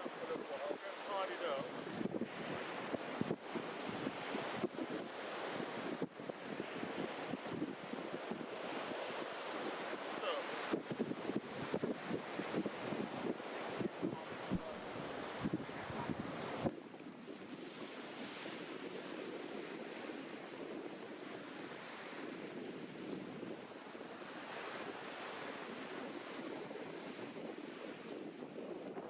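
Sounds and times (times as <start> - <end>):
waves washing onto beach: 0.0 - 29.0
wind on microphone: 0.0 - 29.0.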